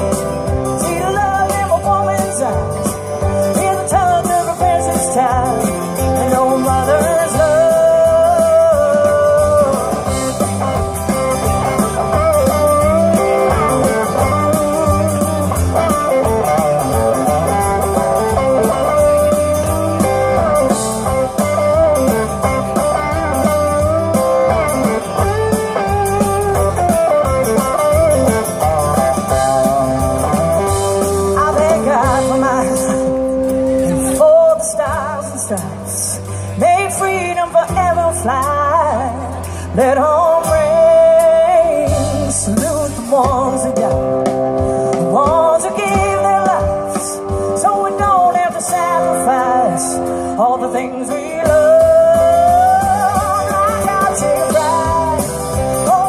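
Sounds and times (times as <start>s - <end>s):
bass: 0.0s - 56.0s
drums: 0.0s - 56.0s
lead guitar with bending notes: 0.0s - 56.0s
strummed acoustic guitar: 0.0s - 56.0s.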